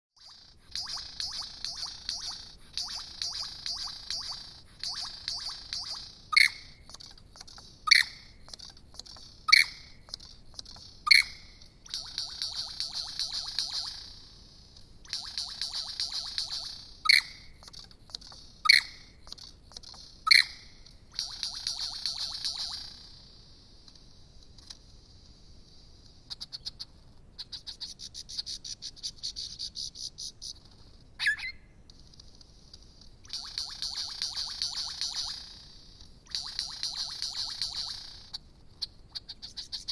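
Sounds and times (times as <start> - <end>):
faint ticking bird notes: 0.2 - 39.9.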